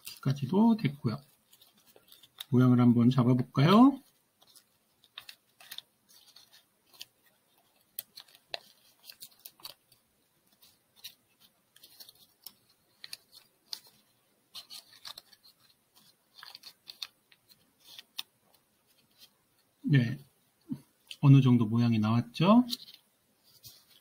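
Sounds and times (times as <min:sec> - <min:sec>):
paper crinkling: 0:00.0 - 0:02.9, 0:03.6 - 0:19.8, 0:22.6 - 0:24.0.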